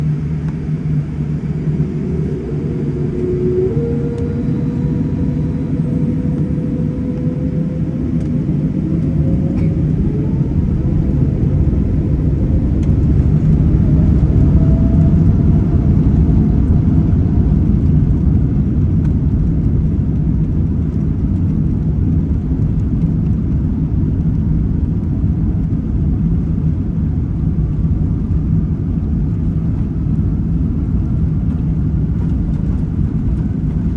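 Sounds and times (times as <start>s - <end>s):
airplane engines rumbling: 0.0s - 33.9s
engine whine rising in pitch: 0.0s - 33.9s.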